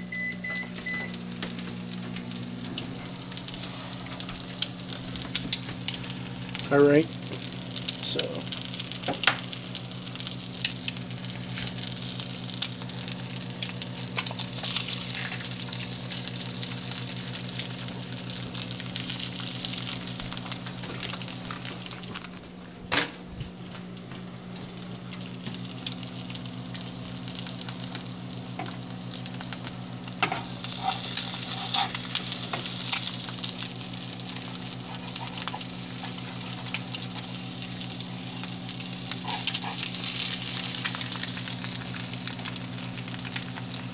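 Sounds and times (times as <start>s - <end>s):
steady low hum: 0.0s - 43.9s
eggs sizzling and popping in grease: 0.1s - 43.9s.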